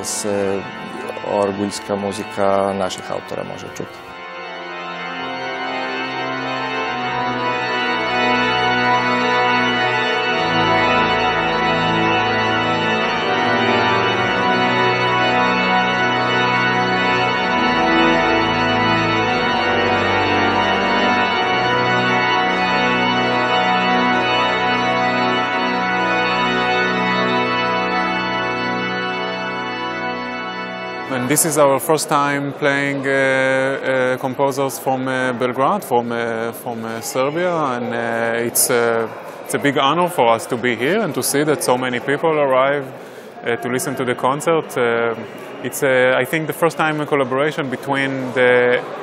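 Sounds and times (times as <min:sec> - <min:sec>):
pipe organ playing: 0:00.0 - 0:49.0.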